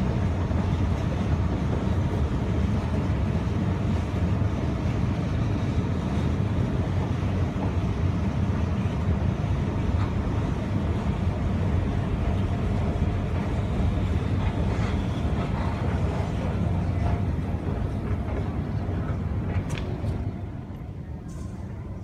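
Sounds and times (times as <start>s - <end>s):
escalator rumbling: 0.0s - 22.0s.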